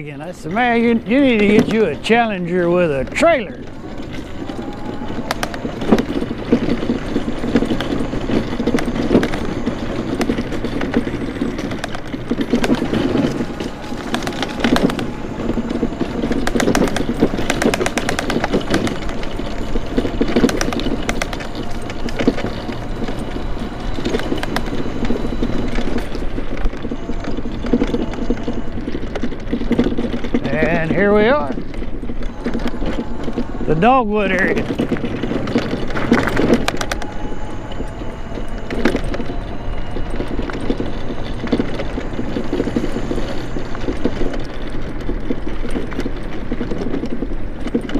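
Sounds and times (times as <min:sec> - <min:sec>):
scooter rattling over bumps: 0:00.0 - 0:47.9
scooter wheels rumbling: 0:00.0 - 0:47.9.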